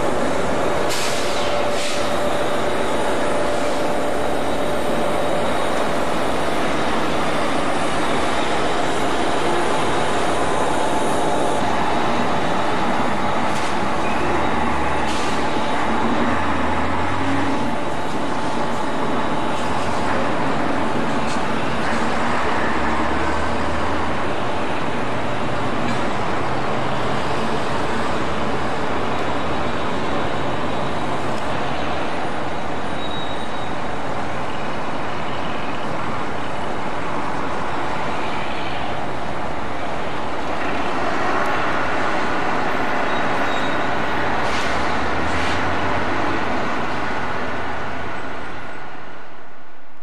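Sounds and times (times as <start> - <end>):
diesel engine running: 0.0 - 49.1.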